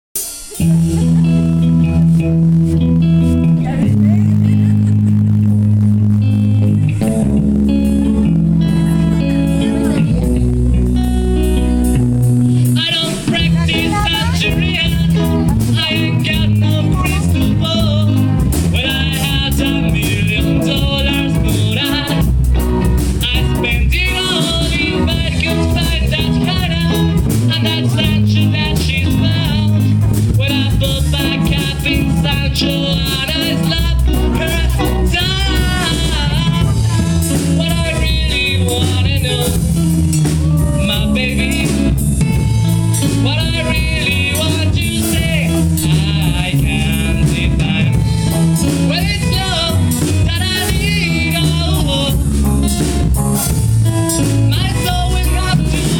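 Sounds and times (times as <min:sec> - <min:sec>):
person singing: 0:00.2 - 0:55.9
rock band playing: 0:00.2 - 0:55.9.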